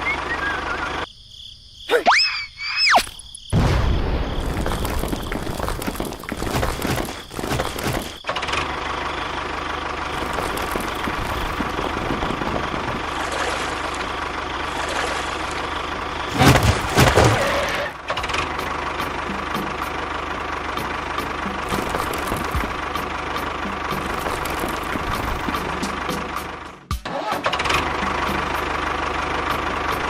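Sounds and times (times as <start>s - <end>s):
tractor engine idling: 4.4s - 30.0s.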